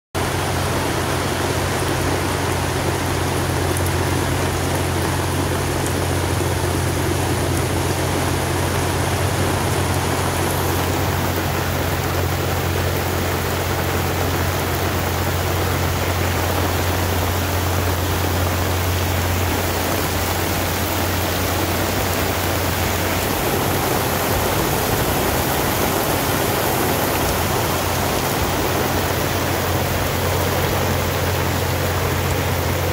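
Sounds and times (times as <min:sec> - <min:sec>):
boat engine droning: 0:00.2 - 0:32.9
heavy rain on water and canvas: 0:00.2 - 0:32.9.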